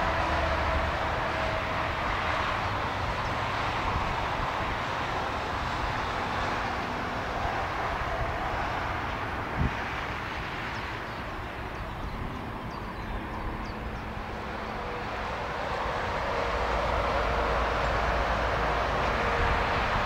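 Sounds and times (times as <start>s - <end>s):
car tyre noise on road: 0.0s - 20.0s
passing train rolling: 0.0s - 20.0s.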